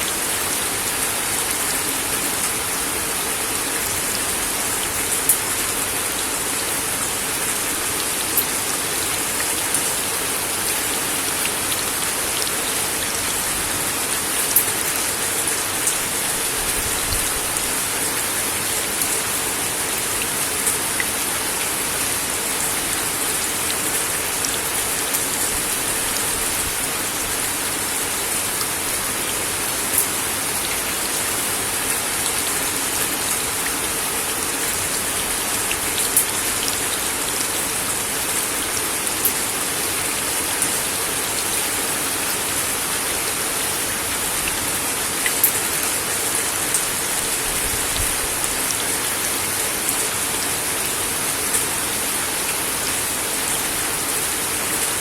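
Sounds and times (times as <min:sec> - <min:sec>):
rain on a wooden deck: 0:00.0 - 0:55.0.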